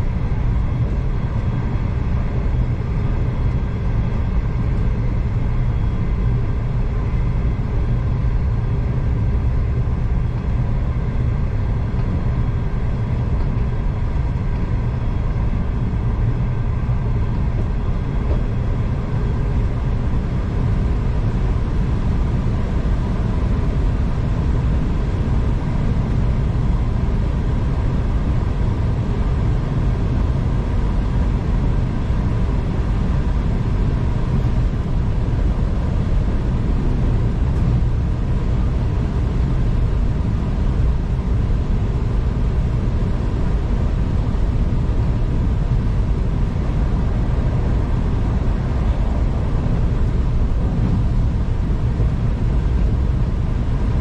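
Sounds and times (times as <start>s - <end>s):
faint constant hum: 0.0s - 54.0s
train rumble from inside carriage: 0.0s - 54.0s.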